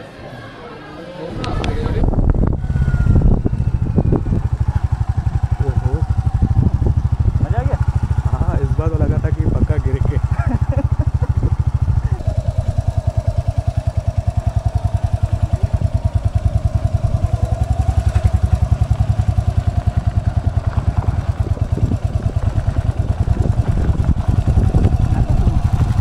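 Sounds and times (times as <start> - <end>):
steady higher whine: 1.4 - 26.0
motorcycle engine running: 1.7 - 26.0.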